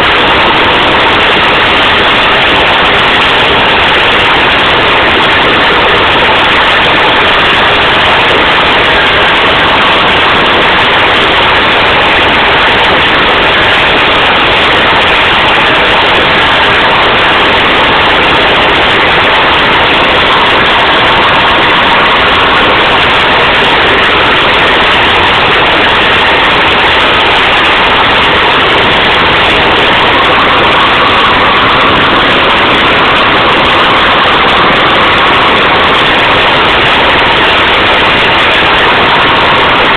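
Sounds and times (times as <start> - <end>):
loud diesel engine running: 0.0 - 39.9.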